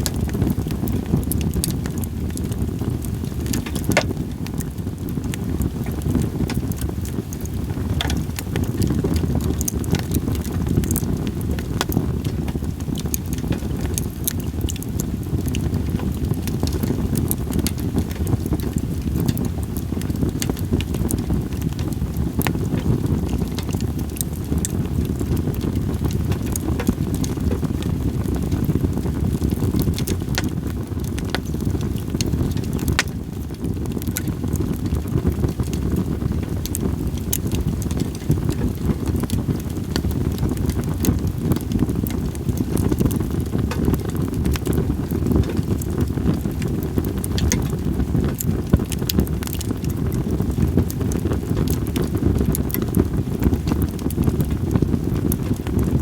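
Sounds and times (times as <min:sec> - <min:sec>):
firewood crackling: 0:00.0 - 0:56.0
wind on microphone: 0:00.0 - 0:56.0.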